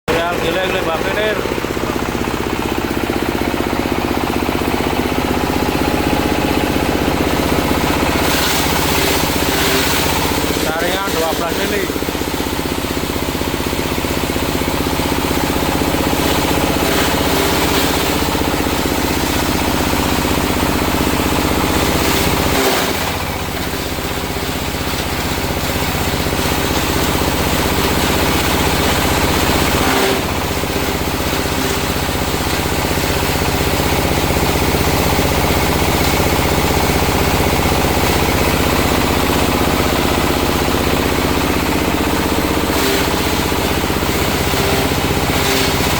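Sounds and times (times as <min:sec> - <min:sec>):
coconut husk shredder running: 0:00.1 - 0:45.9.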